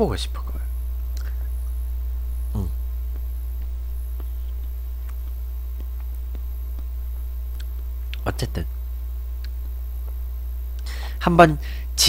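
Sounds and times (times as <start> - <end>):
steady low hum: 0.0 - 12.0
mouth noises while eating: 0.4 - 11.2.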